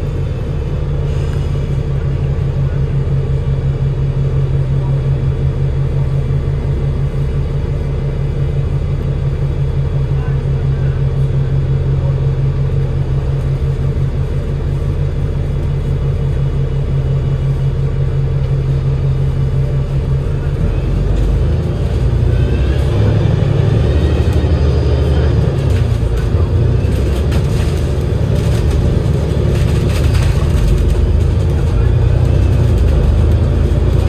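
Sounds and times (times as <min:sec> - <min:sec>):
diesel bus engine: 0:00.0 - 0:34.0.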